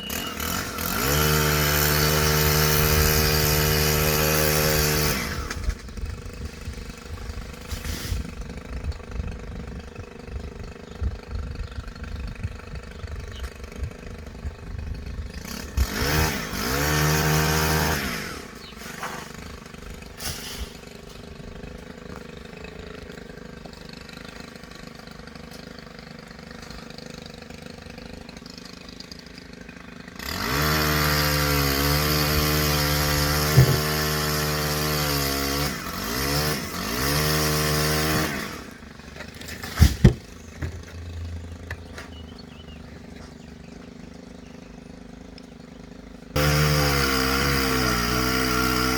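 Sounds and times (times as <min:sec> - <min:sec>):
chainsaw idling and revving: 0:00.0 - 0:48.9.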